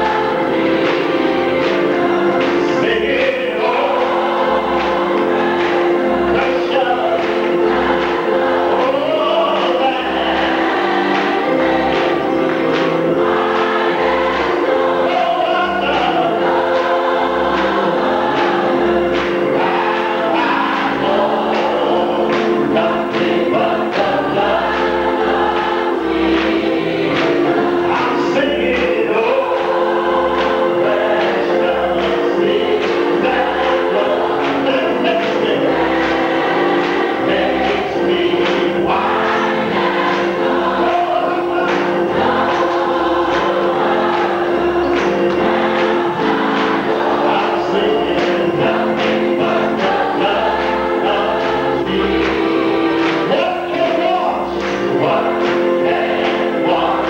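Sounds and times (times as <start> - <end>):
choir clapping: 0.0 - 57.0
gospel choir singing: 0.0 - 57.0.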